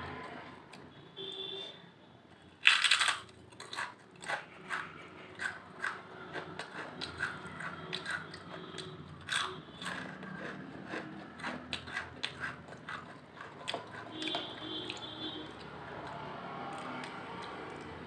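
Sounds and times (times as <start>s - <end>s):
potato chips being chewed: 2.3s - 18.0s.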